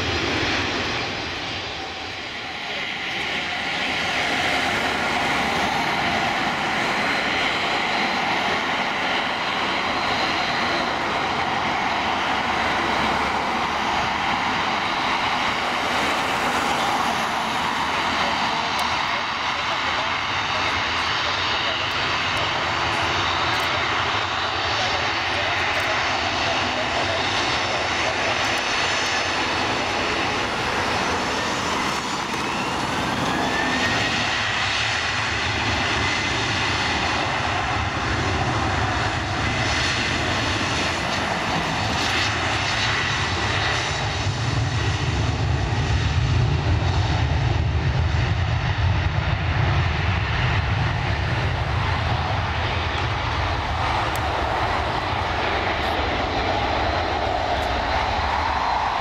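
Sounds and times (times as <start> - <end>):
airliner engines whining: 0.0 - 59.0.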